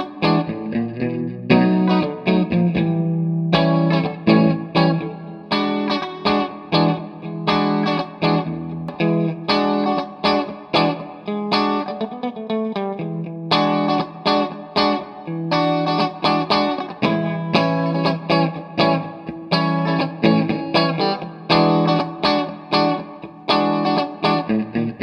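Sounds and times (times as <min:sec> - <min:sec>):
guitar picked notes and chords: 0:00.0 - 0:25.0.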